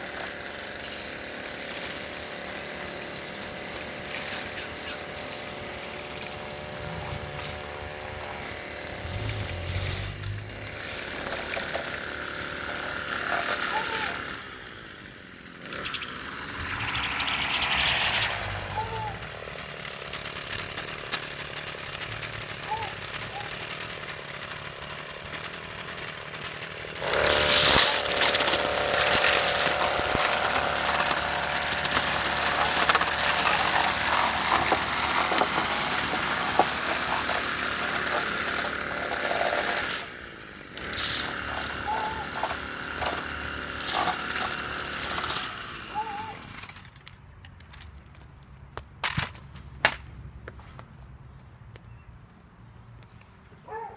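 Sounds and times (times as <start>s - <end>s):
string trimmer cutting grass: 0.0s - 47.3s.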